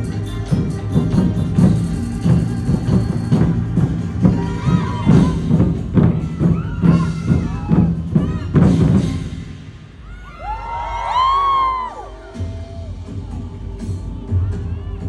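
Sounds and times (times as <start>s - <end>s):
drums beating steady rhythm: 0.0s - 15.0s.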